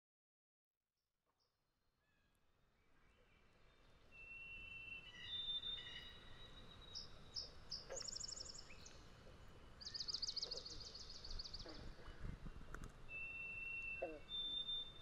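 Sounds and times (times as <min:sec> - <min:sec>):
songbirds singing: 0:02.8 - 0:15.0.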